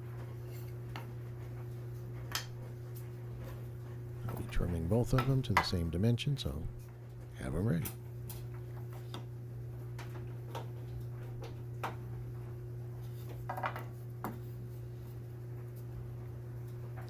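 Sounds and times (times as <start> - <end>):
steady low workshop hum: 0.0 - 17.0.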